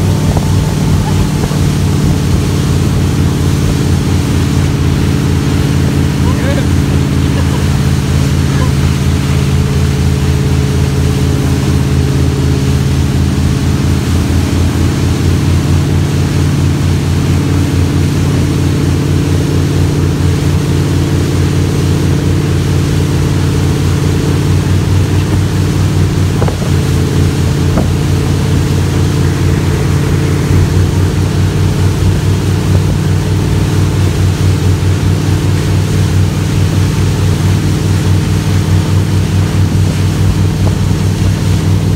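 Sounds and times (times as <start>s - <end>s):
motorboat engine running: 0.0s - 41.9s
rush of wind and water: 0.0s - 41.9s.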